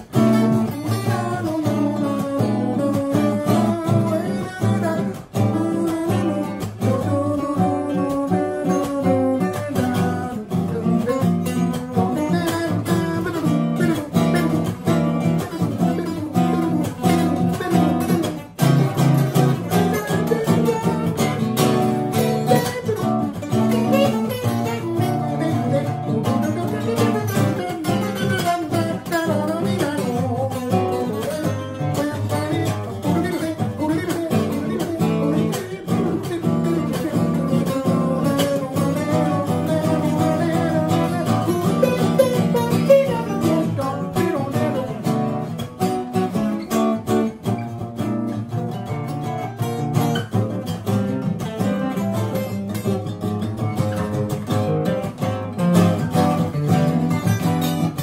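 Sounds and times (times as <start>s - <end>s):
two acoustic guitars playing: 0.0s - 58.0s.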